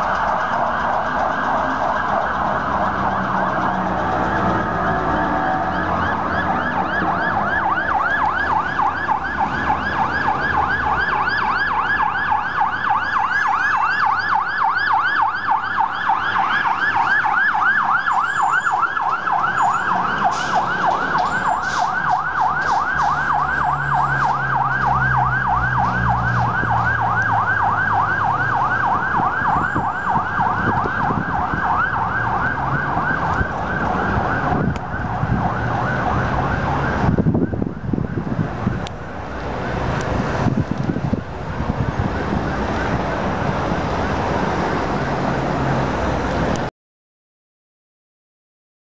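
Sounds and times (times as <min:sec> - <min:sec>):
fire truck siren yelping: 0:00.0 - 0:46.7
traffic: 0:00.0 - 0:46.7.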